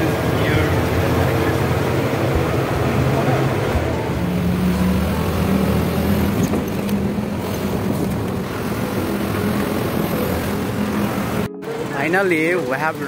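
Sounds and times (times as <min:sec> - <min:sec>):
bus engine hum: 0:00.0 - 0:13.0
tyres rushing on road: 0:00.0 - 0:13.0.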